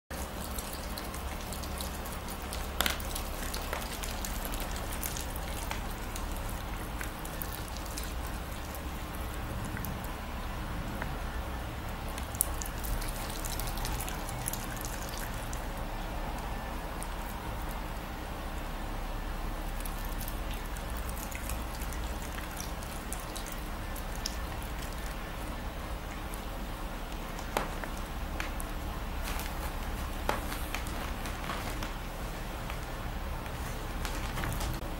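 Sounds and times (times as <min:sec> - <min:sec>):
fox chewing meat: 0:00.1 - 0:18.2, 0:19.6 - 0:34.9.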